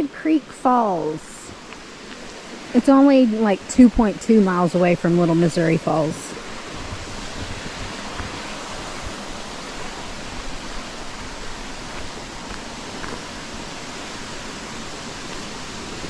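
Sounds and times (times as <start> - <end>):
water rushing at waterfall: 0.0 - 16.0.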